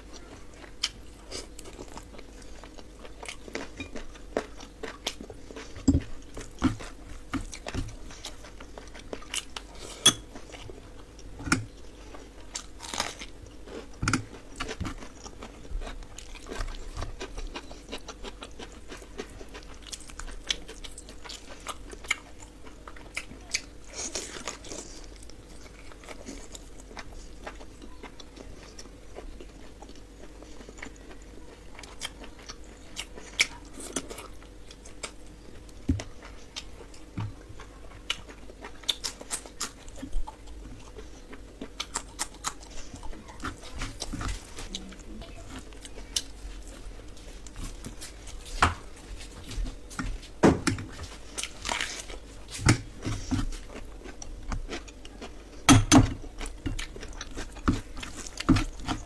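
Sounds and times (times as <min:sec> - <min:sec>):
wet chewing and smacking: 0:00.1 - 0:59.0.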